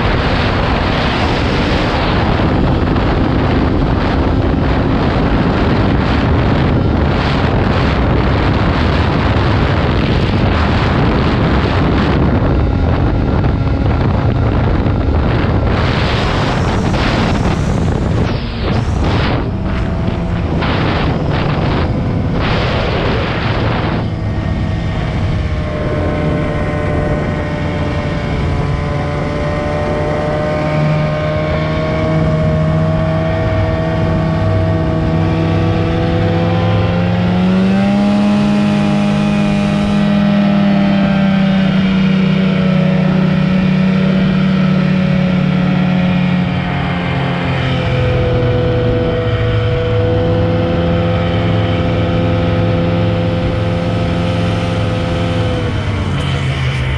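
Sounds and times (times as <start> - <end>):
snowmobile engine whine: 0.0 - 56.9
wind buffeting microphone: 0.0 - 56.9.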